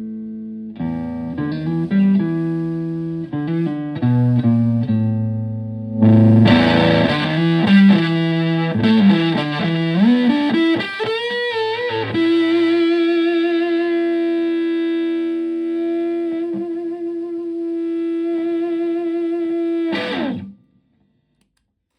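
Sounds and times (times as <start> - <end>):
fuzzy electric guitar lead: 0.0 - 20.6.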